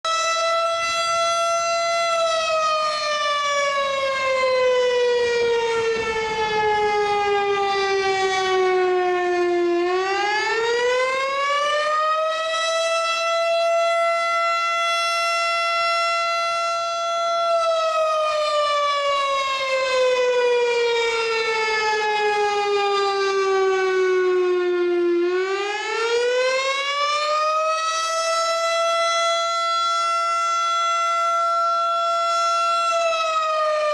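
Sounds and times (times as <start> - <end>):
siren wailing: 0.0 - 33.9.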